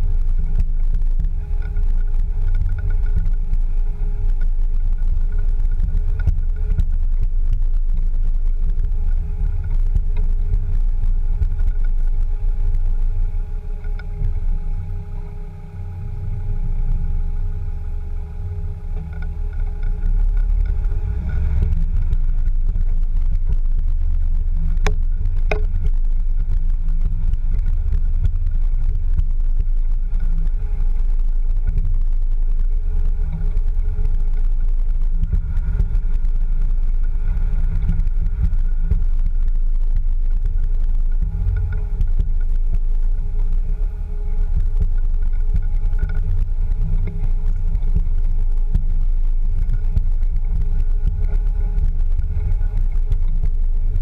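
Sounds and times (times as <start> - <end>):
faint steady whine: 0.0 - 54.0
vehicle low rumble: 0.0 - 54.0.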